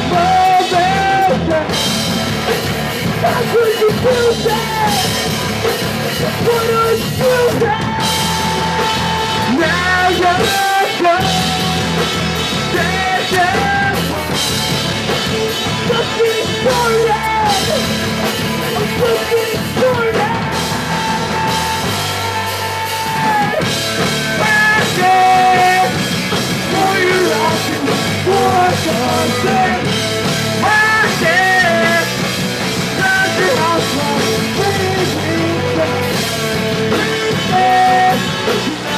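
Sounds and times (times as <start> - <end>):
live punk rock band: 0.0 - 38.9
person singing lead vocals: 0.0 - 38.9.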